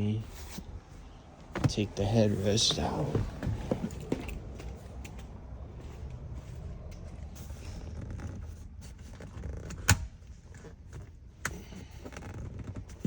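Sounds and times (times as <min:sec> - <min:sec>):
clicks and creaks of headrest: 0:00.4 - 0:05.3, 0:06.9 - 0:13.0.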